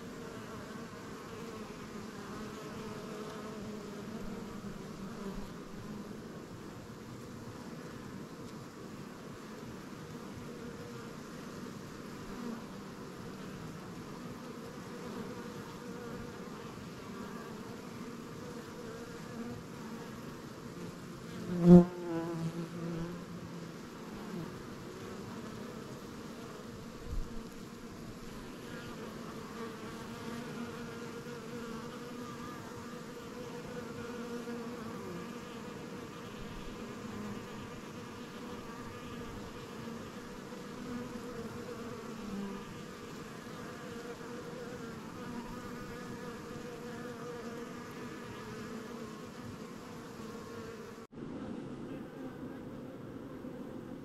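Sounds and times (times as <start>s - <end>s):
bees buzzing: 9.5s - 54.0s.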